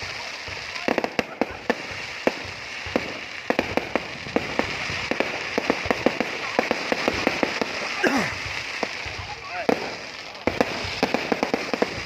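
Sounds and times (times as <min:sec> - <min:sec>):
fireworks bangs: 0:00.0 - 0:12.0
steady hiss: 0:00.0 - 0:12.0.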